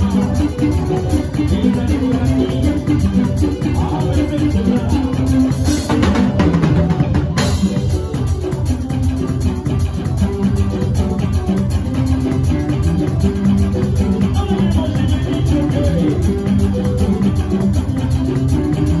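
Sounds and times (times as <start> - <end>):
bass line: 0.0 - 19.0
drum kit steady beat: 0.0 - 19.0
live band music: 0.0 - 19.0
plucked guitar: 0.0 - 19.0.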